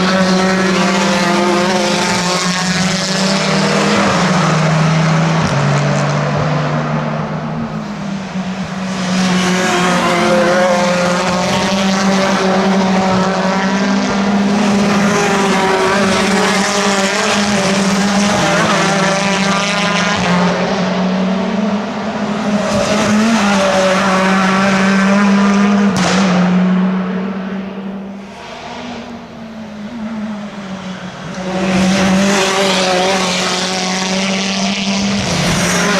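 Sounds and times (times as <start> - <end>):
racing car engines: 0.0 - 35.9.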